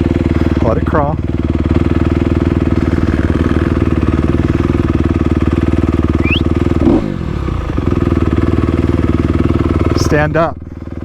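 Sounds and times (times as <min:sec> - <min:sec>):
dirt bike engine at low revs: 0:00.0 - 0:11.0.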